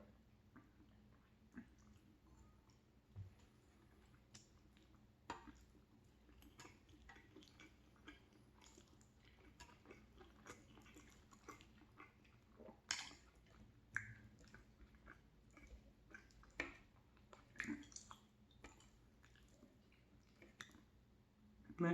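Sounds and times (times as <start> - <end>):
person chewing food: 0.2 - 21.0.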